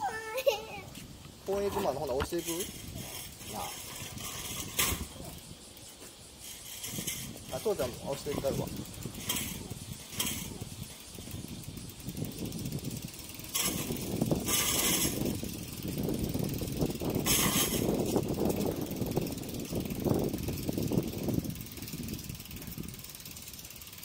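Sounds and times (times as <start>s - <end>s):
bicycle wheels rattling on asphalt: 0.0s - 24.0s.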